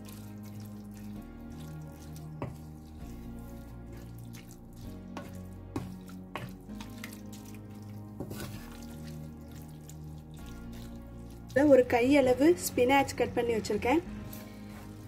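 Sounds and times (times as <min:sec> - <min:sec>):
spoon stirring wet pasta: 0:00.0 - 0:12.1
soft background music: 0:00.0 - 0:15.0.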